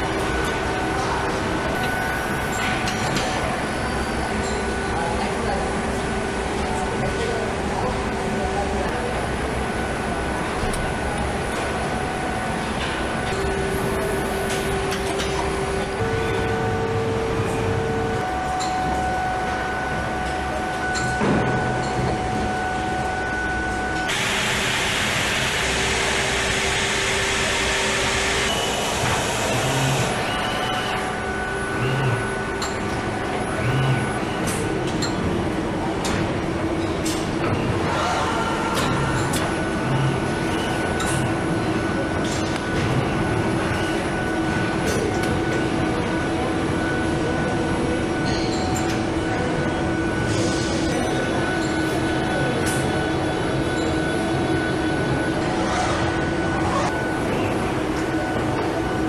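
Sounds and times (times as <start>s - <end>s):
factory machinery hum: 0.0s - 59.0s.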